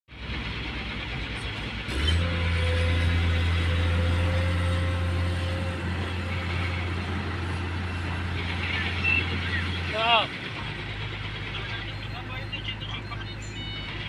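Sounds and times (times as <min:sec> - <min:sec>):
dump truck driving past: 0:00.1 - 0:14.0
excavator engine working: 0:00.1 - 0:14.0
higher engine hum: 0:00.1 - 0:14.0.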